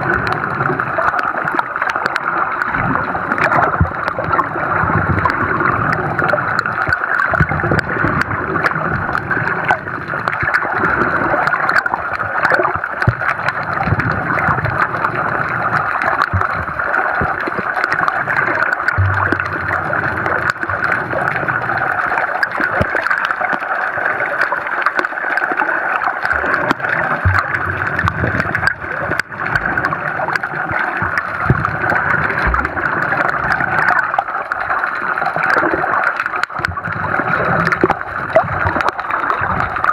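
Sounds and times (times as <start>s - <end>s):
faint crackling clicks: 0.0s - 39.9s
muffled underwater rush: 0.0s - 39.9s.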